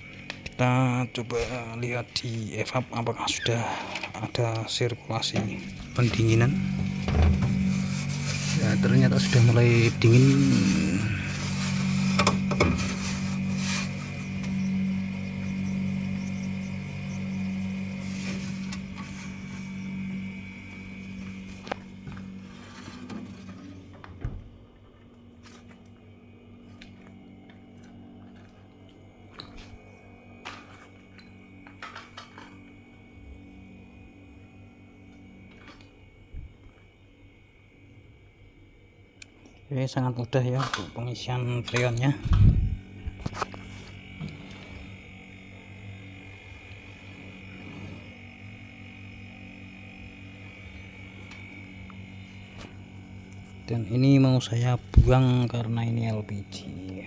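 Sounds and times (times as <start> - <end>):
thin high whine: 0.0 - 24.0, 25.9 - 37.0, 39.8 - 57.0
refrigerator compressor humming: 0.0 - 57.0.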